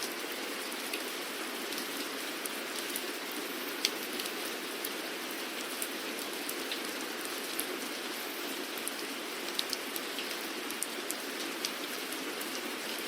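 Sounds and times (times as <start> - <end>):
raindrops ticking: 0.0 - 7.9, 8.7 - 13.0
rain falling: 0.0 - 13.0.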